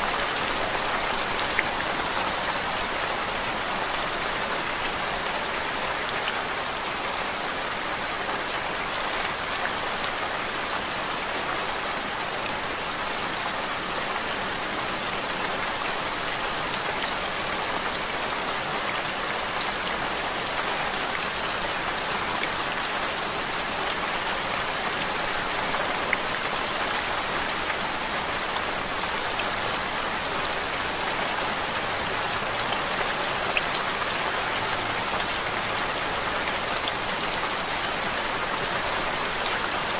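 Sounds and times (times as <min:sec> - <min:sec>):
steady rain hiss and patter: 0:00.0 - 0:39.9.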